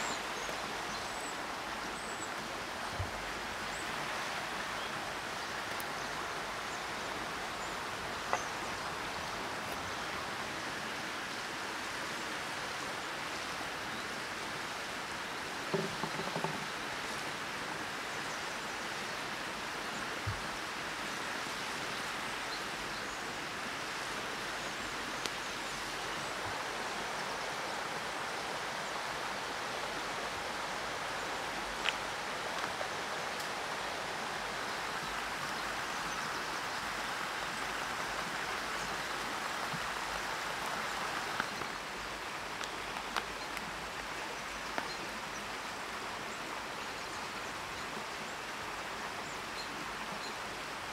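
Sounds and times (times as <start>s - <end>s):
forest stream rushing: 0.0s - 50.9s.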